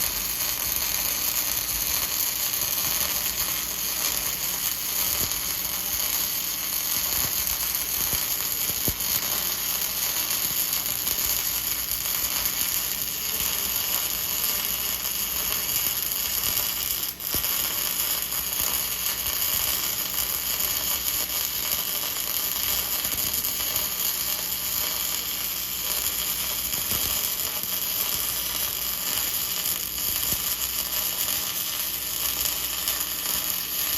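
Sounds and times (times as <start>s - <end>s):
welding arc crackling: 0.0s - 33.9s.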